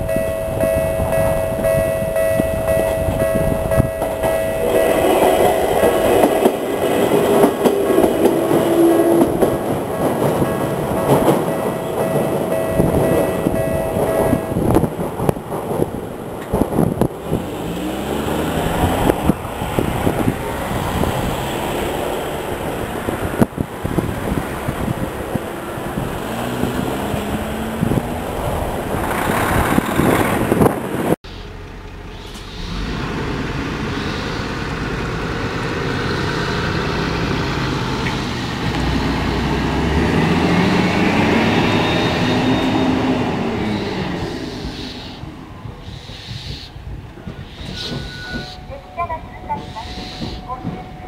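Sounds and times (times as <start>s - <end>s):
train clattering past: 0.0s - 31.2s, 31.8s - 51.0s
bus engine pulling away: 0.0s - 45.9s.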